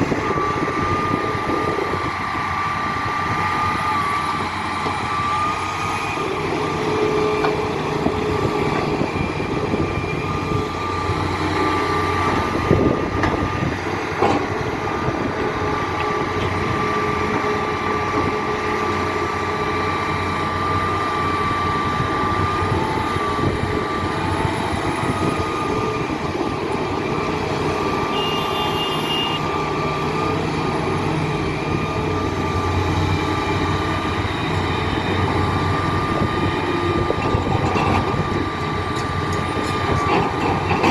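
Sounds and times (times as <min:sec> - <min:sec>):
excavator diesel engine whining: 0:00.0 - 0:40.9.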